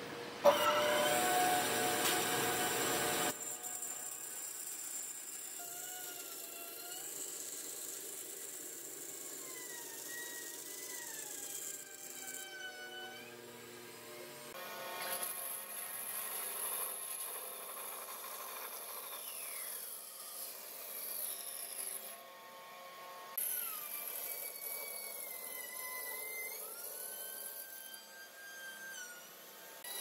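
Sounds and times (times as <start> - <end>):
band saw cutting wood: 0.4 - 30.0.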